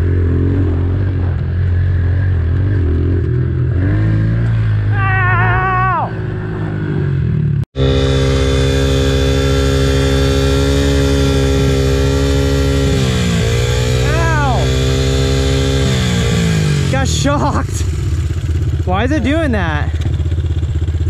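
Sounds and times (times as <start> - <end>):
pit bike engine running: 0.0 - 21.0.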